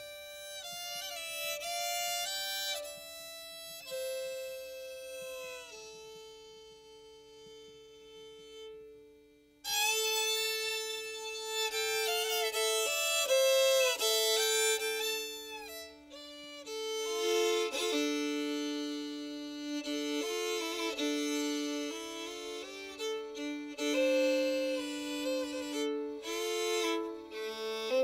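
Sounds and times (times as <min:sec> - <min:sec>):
melody of long held notes: 0:00.0 - 0:28.0.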